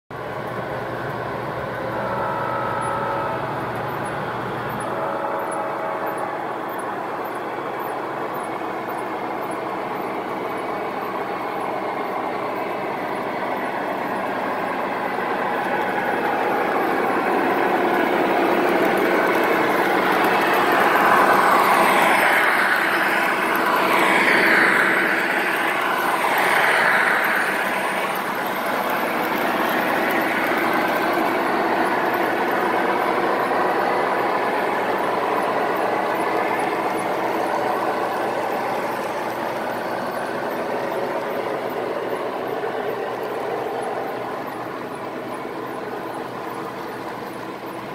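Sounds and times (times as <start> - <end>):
model train diesel engine sound: 0.1 - 47.9
wheels rolling on rails: 0.2 - 47.9.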